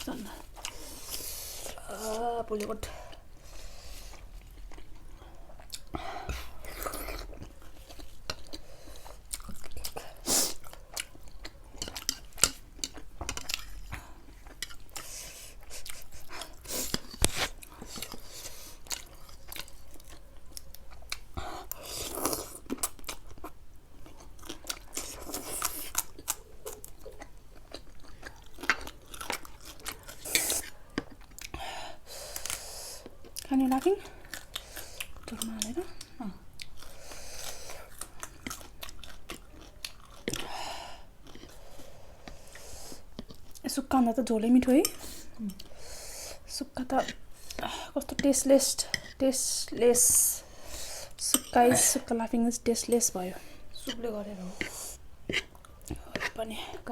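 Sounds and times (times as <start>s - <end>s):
person chewing and crunching: 0.0s - 43.6s, 53.6s - 56.9s.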